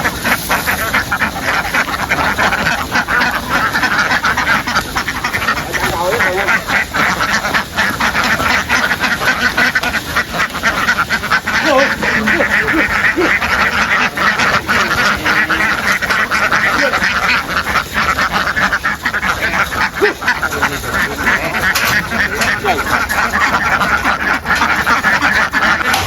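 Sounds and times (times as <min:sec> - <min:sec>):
flock of ducks quacking: 0:00.0 - 0:26.0.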